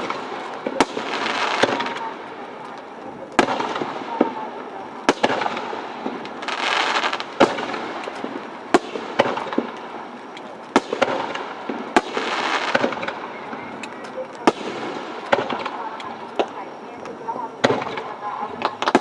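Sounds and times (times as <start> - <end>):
fireworks bangs: 0.0 - 19.0
fireworks crackling hiss: 0.0 - 19.0.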